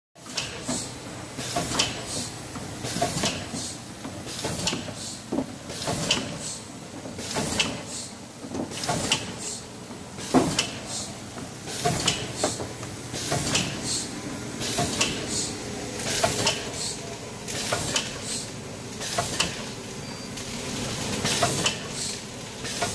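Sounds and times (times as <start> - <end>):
machine clack: 0.2 - 6.6, 7.2 - 9.6, 10.2 - 11.1, 11.7 - 14.0, 14.6 - 19.8, 20.4 - 22.9
packaging machine motor hum: 0.2 - 22.9.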